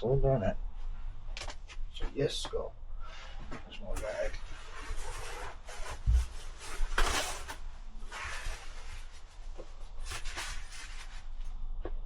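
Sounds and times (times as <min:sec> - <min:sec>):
rustling of parts and wiring: 0:00.8 - 0:12.0.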